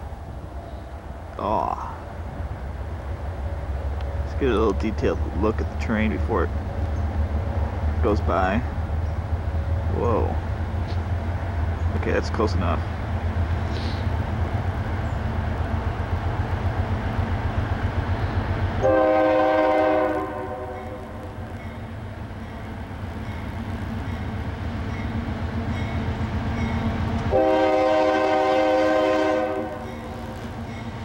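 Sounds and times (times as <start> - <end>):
locomotive low rumble: 0.0 - 31.0.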